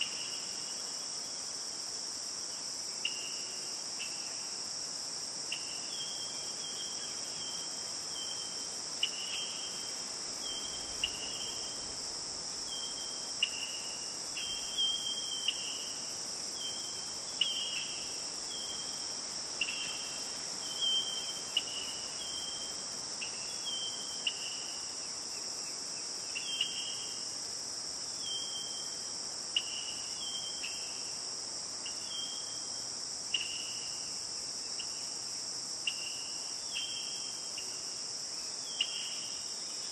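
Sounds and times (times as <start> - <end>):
crickets and night insects chorus: 0.0 - 39.9.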